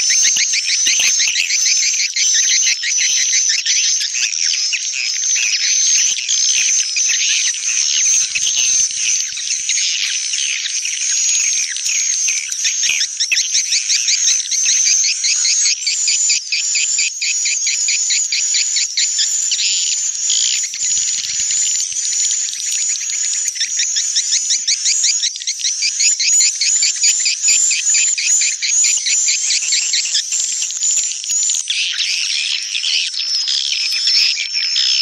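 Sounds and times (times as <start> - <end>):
fast twittering bird chirps: 0.0 - 35.0.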